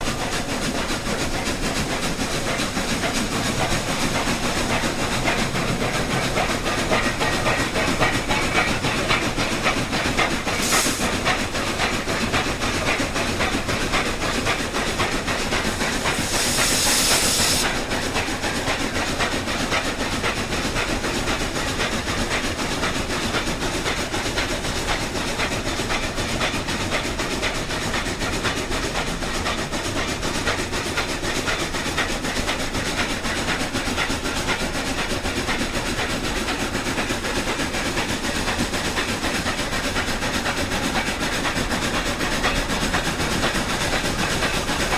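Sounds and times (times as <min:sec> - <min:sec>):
model steam train chuffing: 0:00.0 - 0:44.9
steam hiss: 0:00.0 - 0:44.9.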